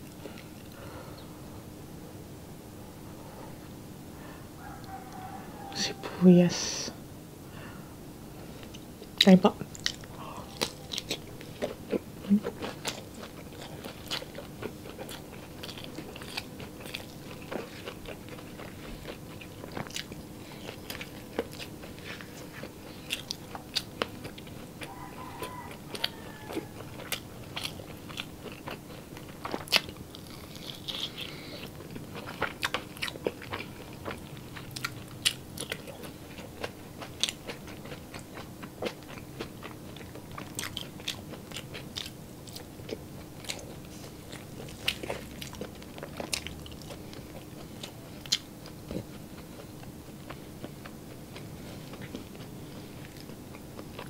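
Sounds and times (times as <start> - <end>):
faint steady hum: 0.0 - 54.0
person chewing with wet smacks: 8.6 - 54.0.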